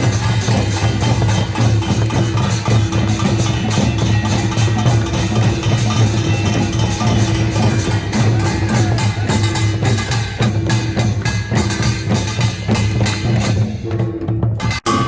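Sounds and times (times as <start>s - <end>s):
percussion ensemble fast beat: 0.0s - 15.0s.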